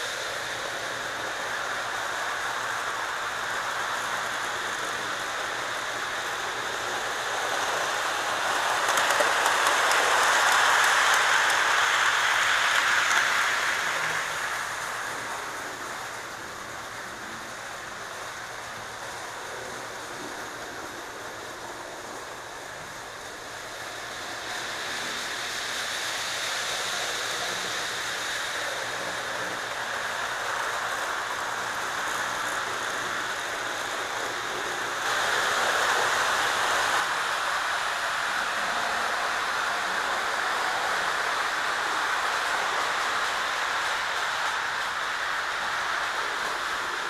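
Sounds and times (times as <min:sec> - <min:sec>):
model train rumbling on track: 0:00.0 - 0:47.0.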